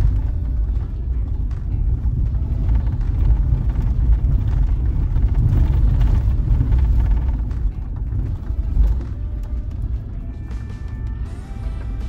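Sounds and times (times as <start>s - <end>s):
vehicle rumbling on dirt road: 0.0s - 12.0s.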